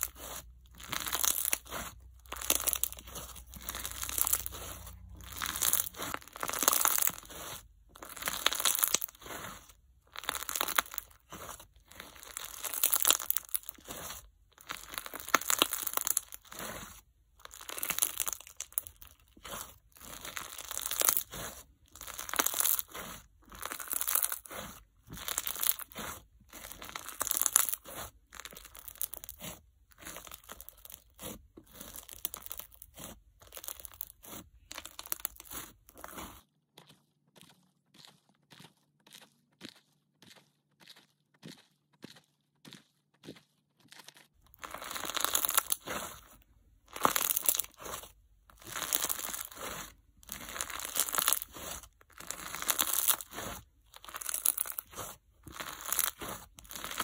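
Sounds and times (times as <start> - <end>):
crunchy slime crackling and popping: 0.0 - 41.9, 42.6 - 57.0.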